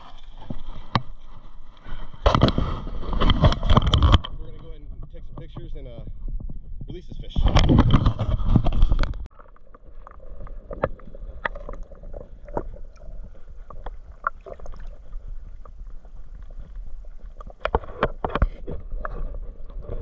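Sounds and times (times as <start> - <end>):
underwater low rumble: 0.0 - 20.0
underwater clicks and knocks: 2.2 - 5.7, 6.3 - 20.0.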